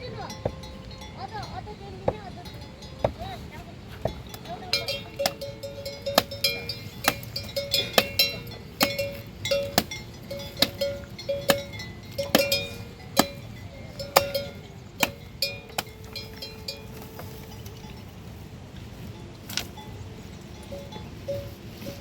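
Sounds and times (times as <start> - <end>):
metal bell clanking: 0.0 - 3.4, 4.1 - 18.4, 19.0 - 22.0.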